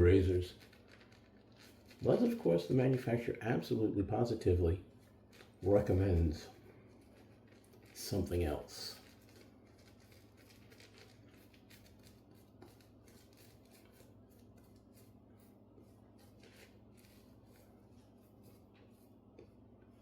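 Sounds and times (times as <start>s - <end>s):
wet-shaving strokes: 0.0s - 19.6s.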